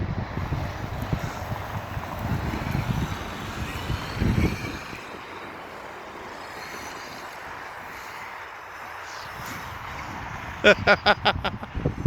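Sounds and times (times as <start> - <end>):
electric motor whine: 0.0 - 10.8.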